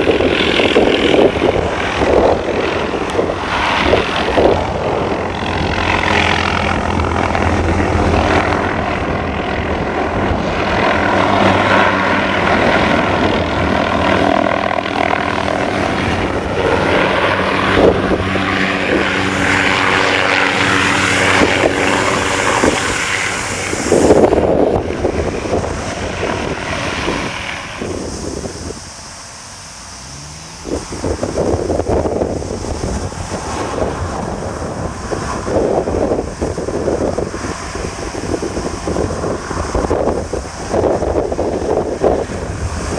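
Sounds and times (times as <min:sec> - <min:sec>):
helicopter rotors and engine: 0:00.0 - 0:42.9.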